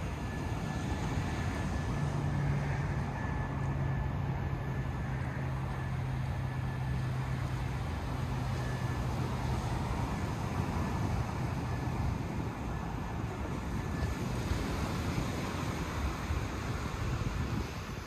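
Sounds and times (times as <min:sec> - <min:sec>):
ocean surf: 0:00.0 - 0:18.0
steady low hum: 0:00.0 - 0:18.0
wind rumbling on microphone: 0:00.0 - 0:18.0.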